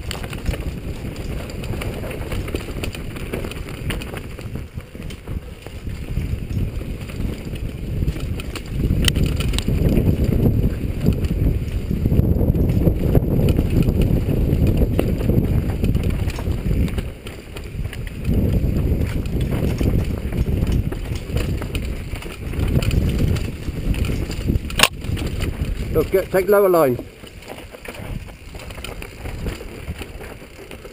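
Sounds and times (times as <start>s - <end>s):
bike clicking and rattling: 0.0s - 30.9s
tyres rolling over dirt: 0.0s - 30.9s
wind buffeting microphone: 0.0s - 30.9s.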